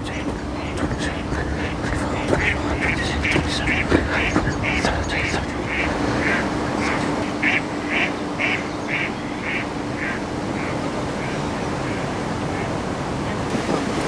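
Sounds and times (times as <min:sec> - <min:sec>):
duck quacking: 0:00.0 - 0:12.7
low hum: 0:00.0 - 0:14.0
steady hiss: 0:00.0 - 0:14.0.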